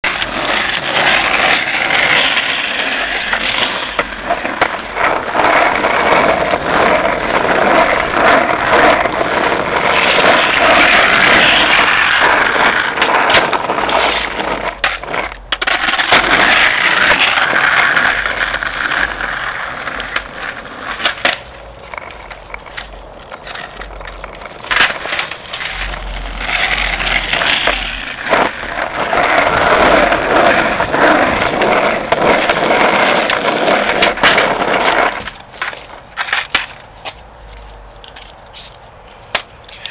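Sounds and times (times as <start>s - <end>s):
skateboard clacking: 0.0s - 39.9s
skateboard wheels rolling on asphalt: 0.0s - 39.9s.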